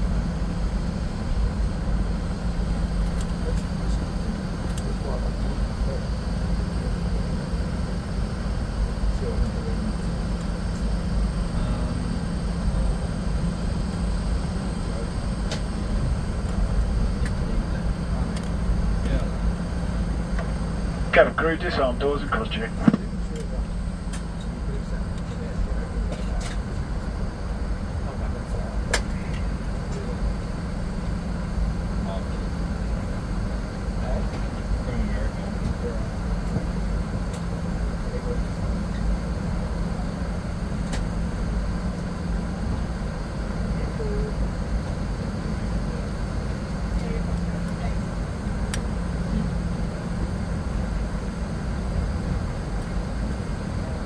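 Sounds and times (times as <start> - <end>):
jet engines idling: 0.0 - 54.0
cabin air hum: 7.8 - 54.0.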